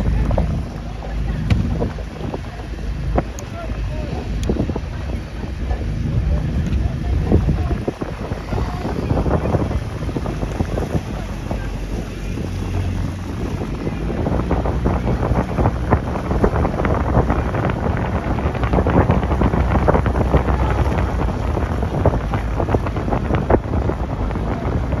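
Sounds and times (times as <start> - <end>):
motorboat engine drone: 0.0 - 25.0
water splashing against hull: 0.0 - 25.0
wind buffeting microphone: 0.0 - 25.0.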